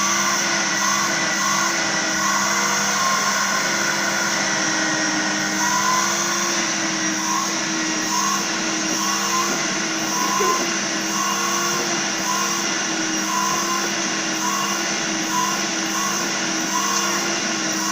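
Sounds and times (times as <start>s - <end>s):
vacuum cleaner running: 0.0s - 17.9s.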